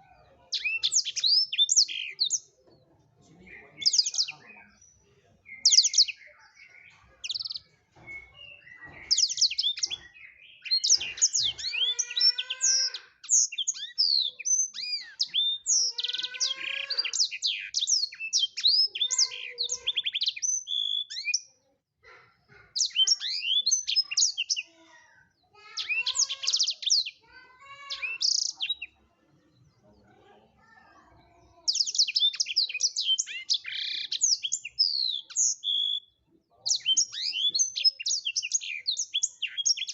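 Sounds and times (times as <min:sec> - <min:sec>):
canary singing: 0:00.0 - 0:29.7, 0:31.1 - 0:39.9.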